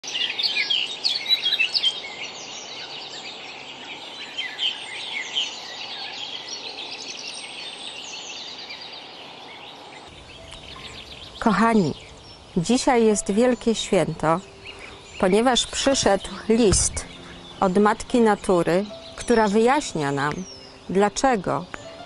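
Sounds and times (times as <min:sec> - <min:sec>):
birds chirping and singing: 0:00.0 - 0:22.0
steady background hiss: 0:00.1 - 0:22.0.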